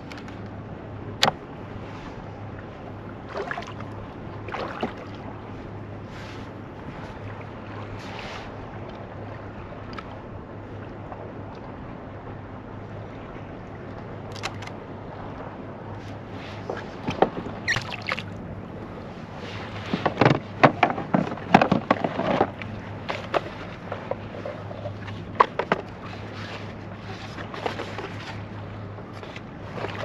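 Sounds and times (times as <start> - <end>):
water noise: 0.0 - 30.0
wind: 0.0 - 30.0.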